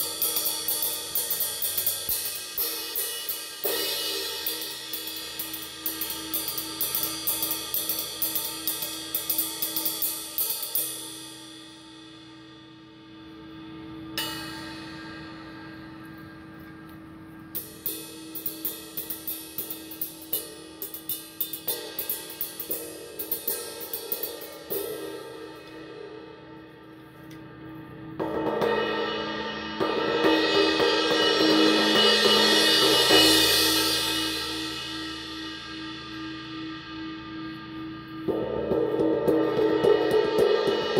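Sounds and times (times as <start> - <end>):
ride cymbal struck with drumstick: 0.0 - 16.8, 17.5 - 26.8, 28.2 - 40.9
cymbal wash: 0.0 - 40.9.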